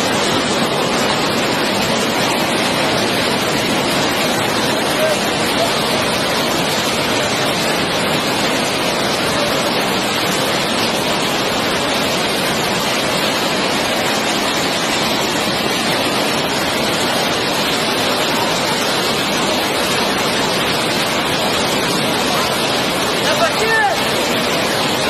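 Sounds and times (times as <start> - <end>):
water rushing from spillway: 0.0 - 25.0.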